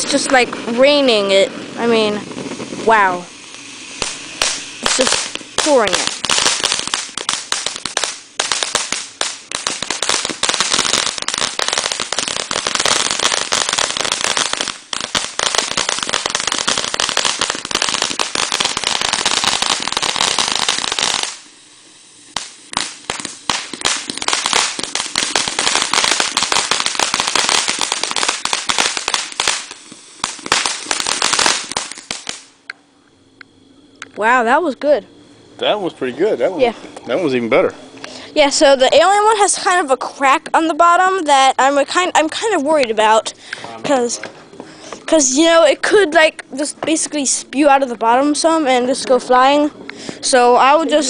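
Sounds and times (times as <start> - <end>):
firework fountain crackling: 0.0 - 51.0.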